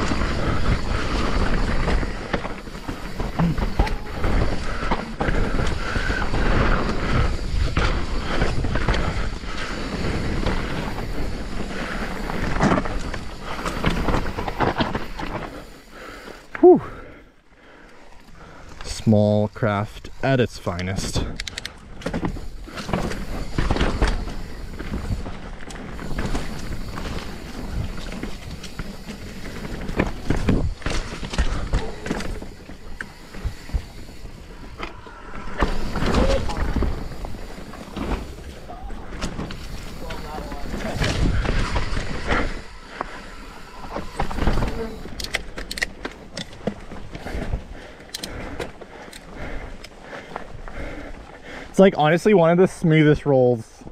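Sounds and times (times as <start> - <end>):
bike rattling and clattering: 0.0 - 52.9
bike tyres rolling over dirt: 0.0 - 53.9.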